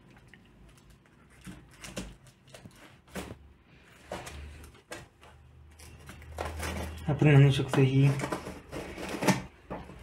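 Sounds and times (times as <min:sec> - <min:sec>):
plastic wrap rustling: 0:00.0 - 0:10.0.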